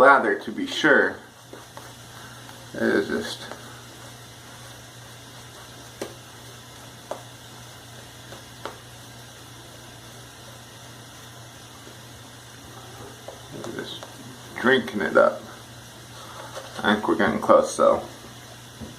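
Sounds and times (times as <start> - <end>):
steady low hum: 0.0 - 18.9
shaving brush swirling lather: 0.2 - 18.6.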